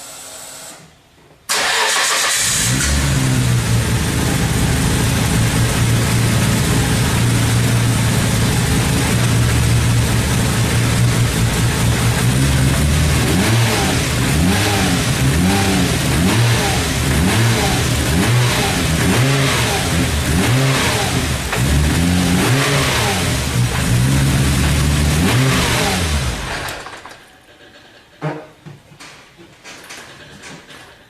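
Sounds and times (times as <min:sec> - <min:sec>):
car engine revving in blips: 0:01.6 - 0:26.8.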